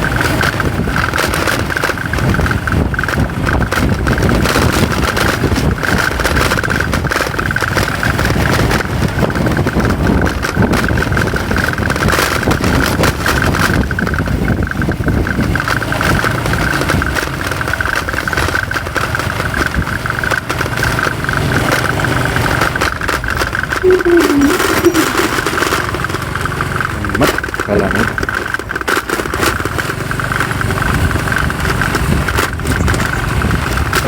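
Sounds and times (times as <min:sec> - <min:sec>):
motorcycle engine running: 0:00.0 - 0:34.0
road and wind noise: 0:00.0 - 0:34.0.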